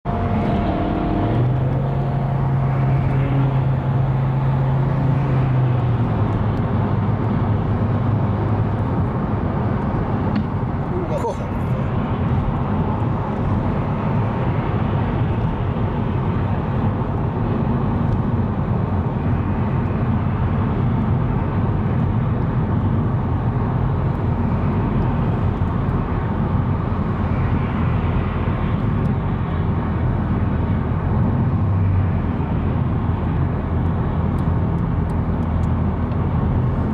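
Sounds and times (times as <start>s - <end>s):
low engine drone: 0.0s - 36.9s.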